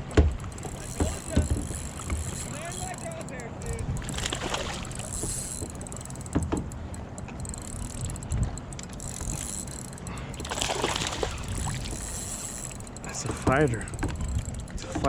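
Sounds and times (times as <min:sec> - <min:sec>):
water sloshing around kayak: 0:00.0 - 0:15.0.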